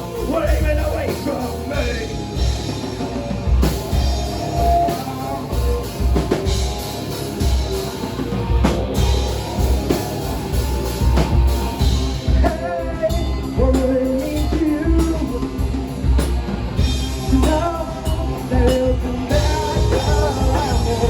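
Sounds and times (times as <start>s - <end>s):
drum kit beat: 0.0s - 21.0s
guitar: 0.0s - 21.0s
heavy pulsing low end: 0.0s - 21.0s.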